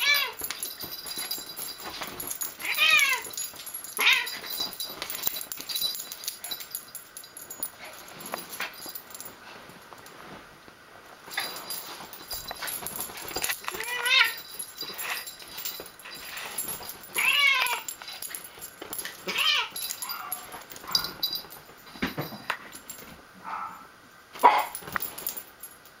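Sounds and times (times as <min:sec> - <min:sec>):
scuffling and rustling of bedding: 0:00.0 - 0:23.3, 0:24.3 - 0:25.8.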